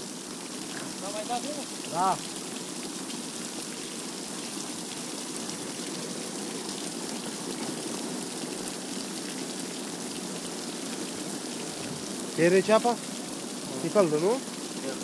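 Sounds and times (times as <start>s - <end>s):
water gushing onto steel: 0.0s - 15.0s.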